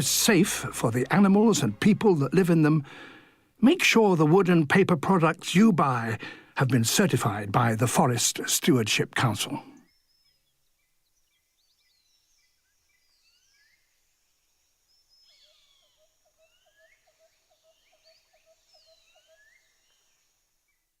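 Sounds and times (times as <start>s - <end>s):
faint forest birdsong: 0.0s - 21.0s.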